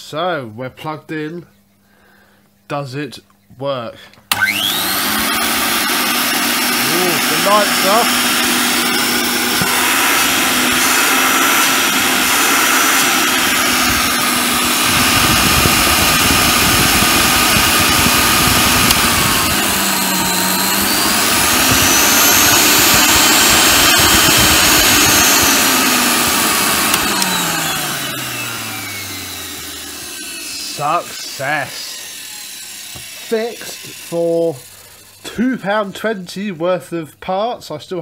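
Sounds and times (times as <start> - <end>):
vacuum cleaner motor running: 4.3 - 35.3.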